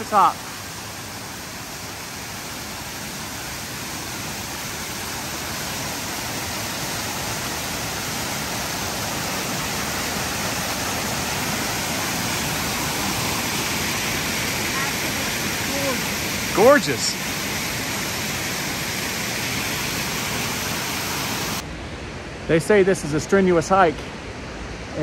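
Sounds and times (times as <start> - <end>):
rushing creek water: 0.0 - 25.0.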